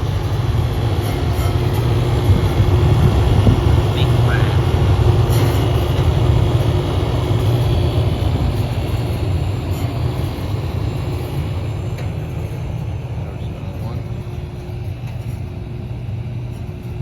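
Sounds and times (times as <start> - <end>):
faint hum: 0.0 - 17.0
hvac unit rumbling: 0.0 - 17.0.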